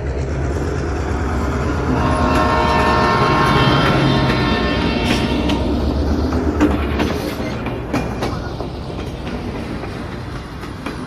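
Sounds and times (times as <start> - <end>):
train rumbling on rails: 0.0 - 11.0
wheels clacking over rail joints: 0.0 - 11.0.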